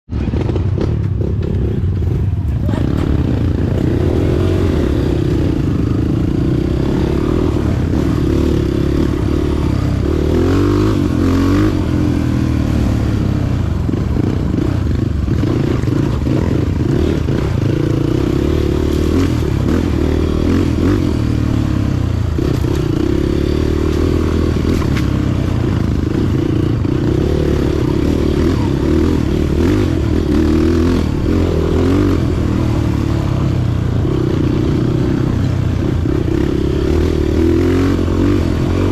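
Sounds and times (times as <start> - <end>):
motorcycle engine revving: 0.1 - 38.9.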